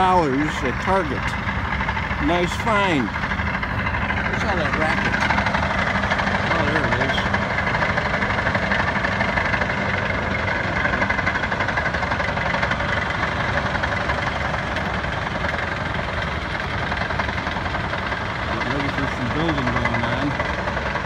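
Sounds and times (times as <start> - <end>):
tracked bulldozer engine: 0.0 - 21.0
tractor pulling dirt scraper: 0.0 - 21.0.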